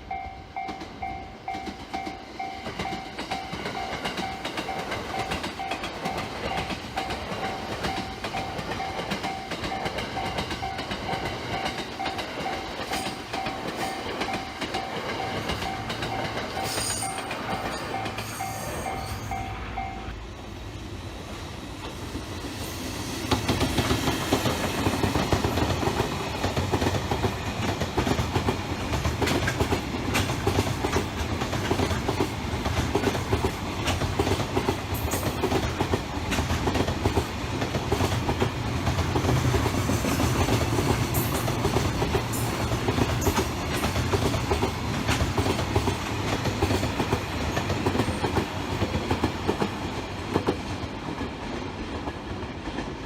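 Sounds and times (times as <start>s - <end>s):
train wheels clattering over rail joints: 0.6s - 18.4s, 23.2s - 51.4s.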